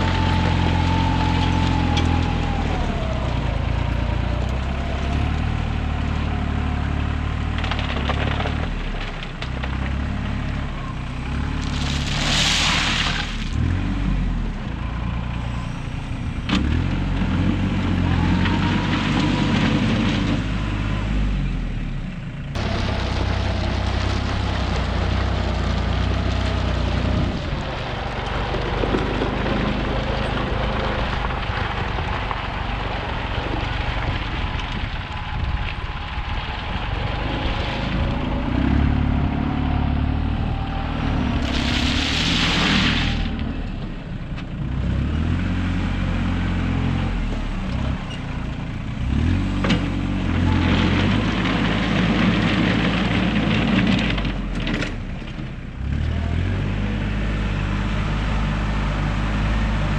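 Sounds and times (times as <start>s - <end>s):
heavy machine engine revving: 0.0s - 8.8s, 9.6s - 21.9s, 22.5s - 55.1s, 55.8s - 59.9s.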